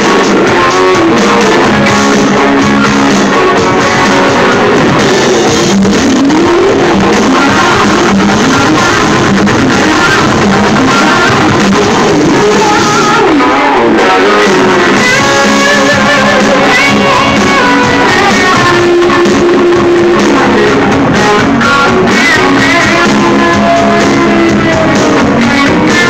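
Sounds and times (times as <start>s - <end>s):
electric guitar: 0.0s - 26.0s
live rock band: 0.0s - 26.0s.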